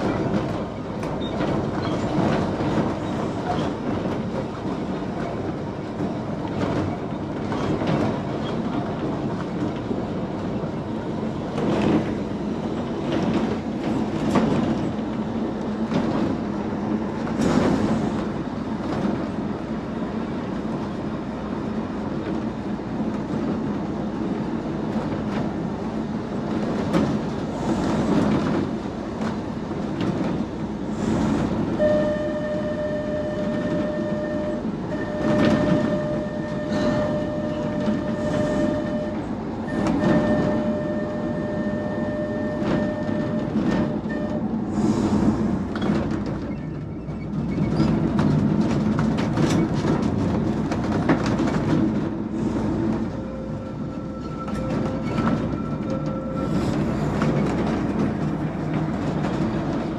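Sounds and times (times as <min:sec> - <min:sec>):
tram wheels rumbling: 0:00.0 - 0:59.9.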